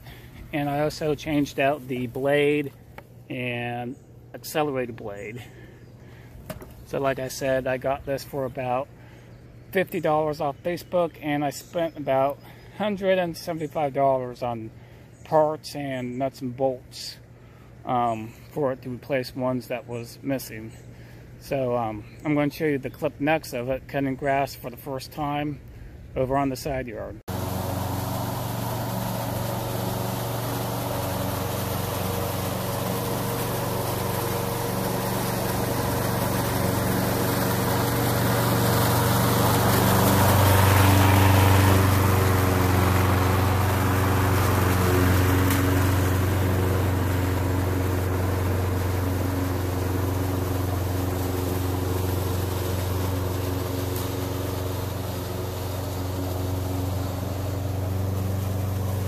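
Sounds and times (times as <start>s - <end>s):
lawn mower engine cutting grass: 0.0s - 16.2s, 26.3s - 59.0s.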